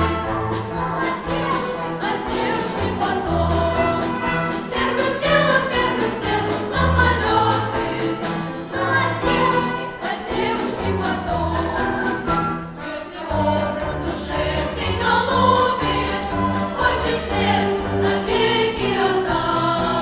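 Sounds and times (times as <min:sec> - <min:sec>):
orchestra playing: 0:00.0 - 0:20.0.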